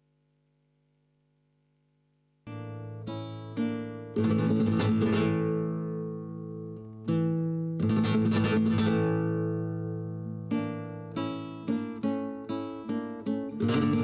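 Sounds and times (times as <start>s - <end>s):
acoustic guitar: 2.5s - 14.0s.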